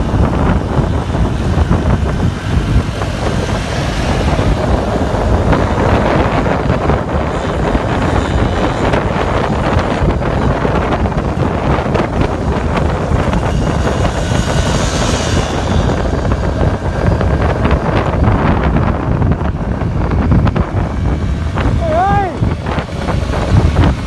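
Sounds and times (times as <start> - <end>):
scooter running noise: 0.0 - 24.0
wind buffeting microphone: 0.0 - 24.0.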